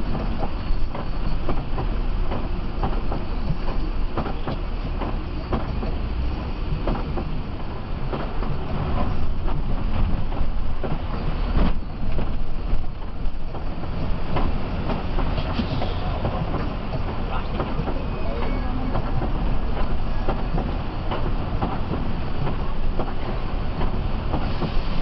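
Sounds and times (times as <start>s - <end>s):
bodywork clicks and rattles: 0.1s - 24.8s.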